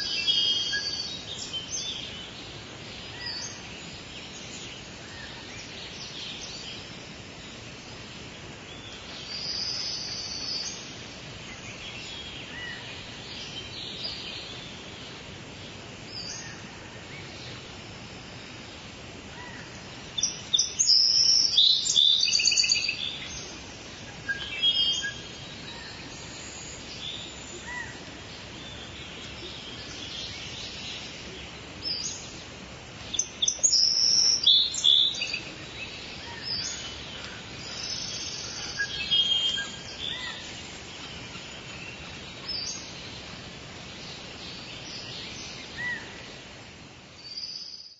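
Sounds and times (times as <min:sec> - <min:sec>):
songbirds chirping: 0:00.0 - 0:47.9
steady rain falling: 0:00.0 - 0:47.9.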